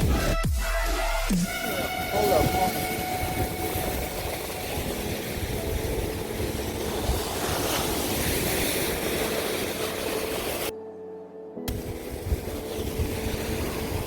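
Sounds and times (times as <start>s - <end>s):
ocean surf washing on beach: 1.5s - 10.7s, 11.7s - 14.0s
wind rumbling on microphone: 1.6s - 10.7s, 11.7s - 14.0s.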